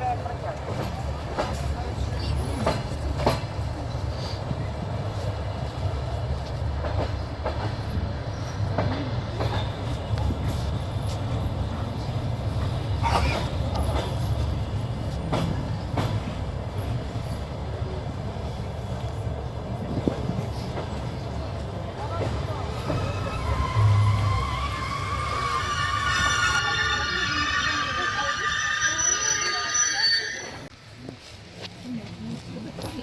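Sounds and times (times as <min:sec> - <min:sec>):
train wheels rumbling: 0:00.0 - 0:30.7.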